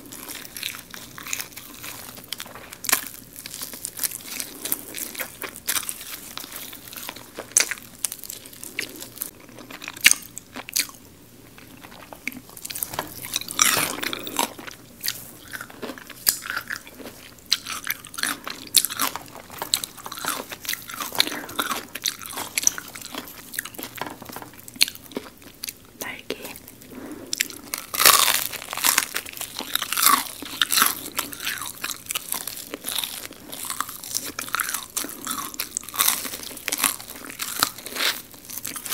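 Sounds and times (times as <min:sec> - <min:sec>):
crunchy chewing of fried chicken: 0:00.0 - 0:38.9.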